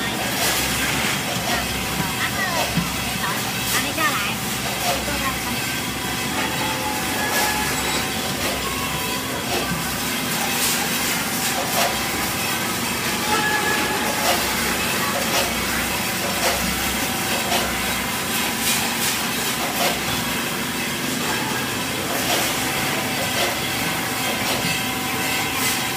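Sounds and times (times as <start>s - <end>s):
machine clacking: 0.0s - 25.9s
machines hissing: 0.0s - 25.9s.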